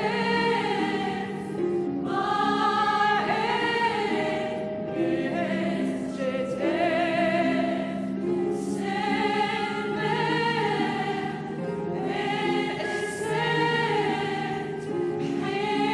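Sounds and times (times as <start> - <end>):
choir singing long notes: 0.0 - 15.9.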